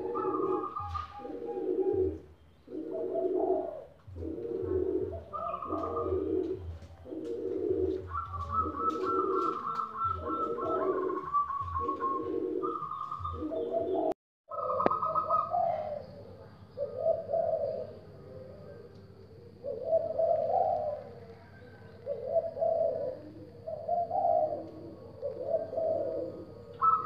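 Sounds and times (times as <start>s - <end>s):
doves cooing: 0.0s - 27.0s.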